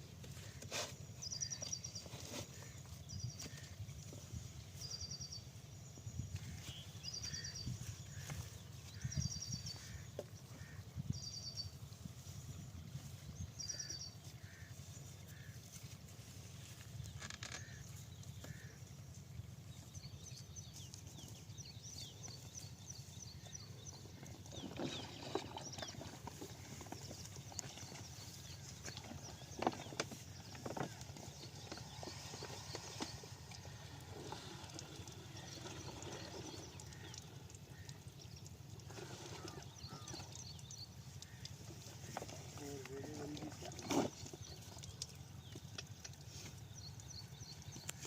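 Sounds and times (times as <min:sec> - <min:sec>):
small birds chirping: 0:00.2 - 0:48.0.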